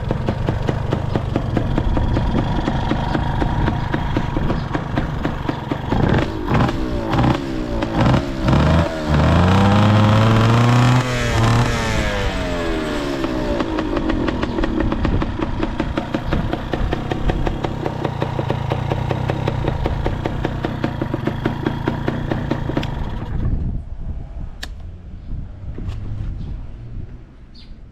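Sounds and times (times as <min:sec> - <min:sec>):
two-stroke engine revving and idling: 0:00.0 - 0:23.4.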